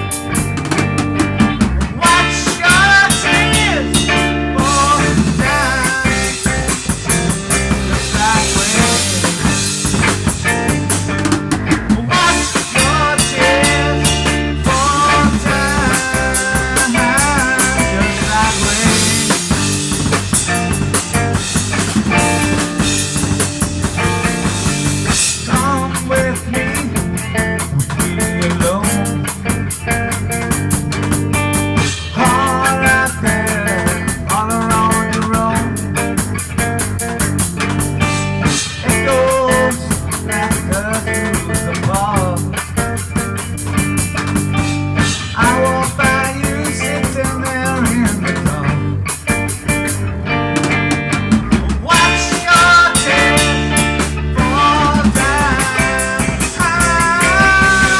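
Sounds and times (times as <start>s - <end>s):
drum kit beat: 0.0s - 57.9s
guitar: 0.0s - 57.9s
rock music: 0.0s - 57.9s.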